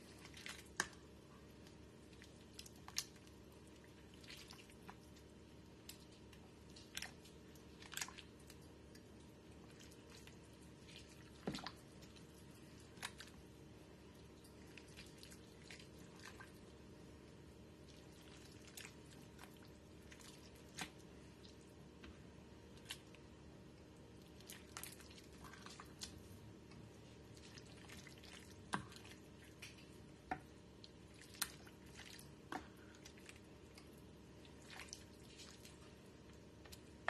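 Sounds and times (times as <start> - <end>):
soup squelching while stirred: 0.0 - 21.8, 24.2 - 37.0.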